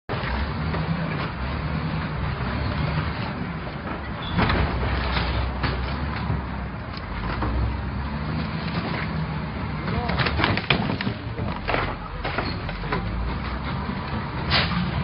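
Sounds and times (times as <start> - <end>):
street noise: 0.1 - 15.0.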